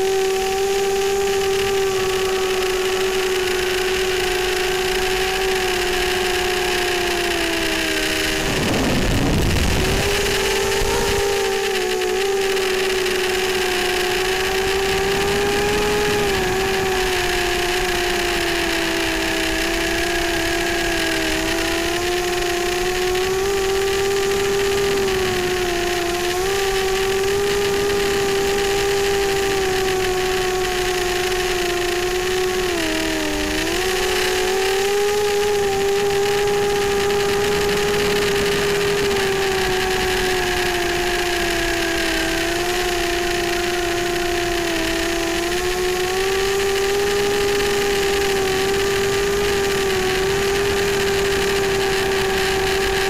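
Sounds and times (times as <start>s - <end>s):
drone motors whining: 0.0s - 53.0s.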